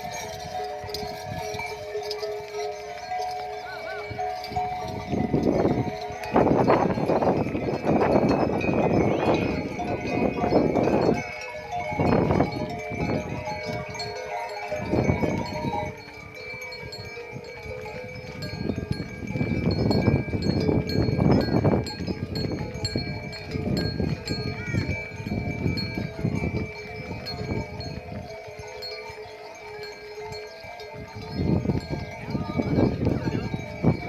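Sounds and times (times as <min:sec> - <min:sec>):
cow bells ringing: 0:00.0 - 0:34.0.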